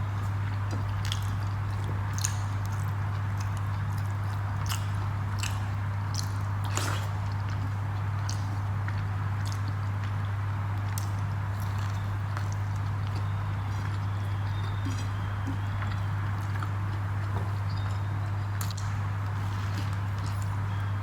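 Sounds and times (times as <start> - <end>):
person chewing: 0.5 - 10.2, 10.8 - 20.8.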